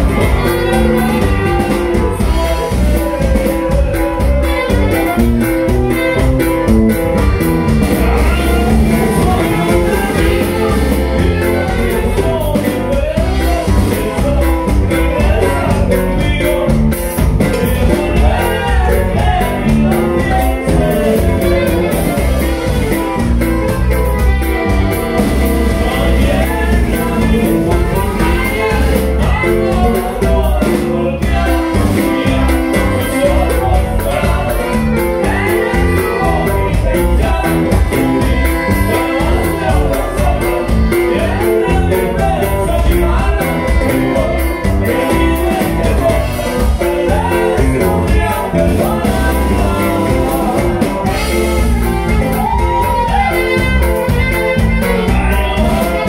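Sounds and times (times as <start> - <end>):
drum kit: 0.0 - 56.0
electric bass guitar: 0.0 - 56.0
man singing: 0.0 - 56.0.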